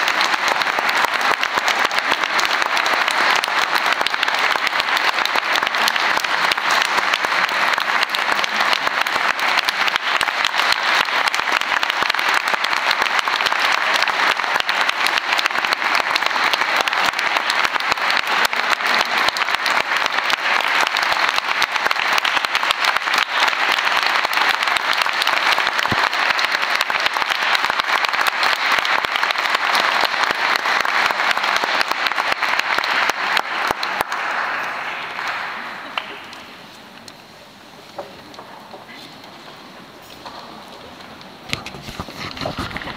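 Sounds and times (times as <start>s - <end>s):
audience applause: 0.0s - 42.9s.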